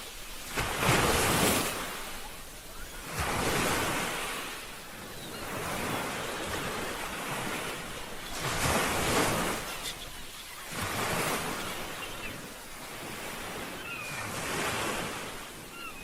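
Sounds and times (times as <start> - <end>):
soft rush of water: 0.0 - 16.0
waves breaking: 0.0 - 16.0.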